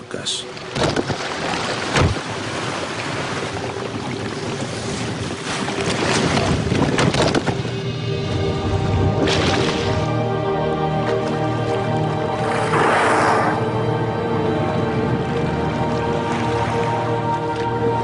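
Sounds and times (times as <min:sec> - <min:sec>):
sea water rushing and splashing: 0:00.0 - 0:18.0
background music with held notes: 0:03.4 - 0:18.0.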